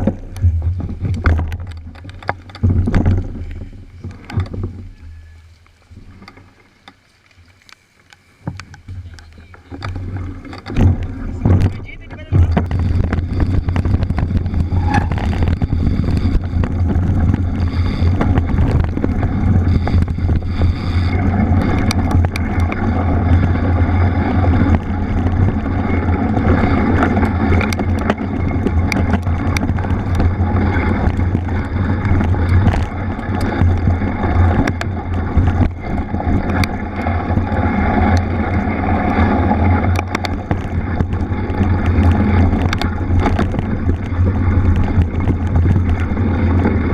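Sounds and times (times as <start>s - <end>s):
wind buffeting microphone: 0.0s - 6.3s, 8.5s - 46.9s
bike clicks and rattles: 0.0s - 46.9s
bike tyres rumbling: 0.0s - 46.9s.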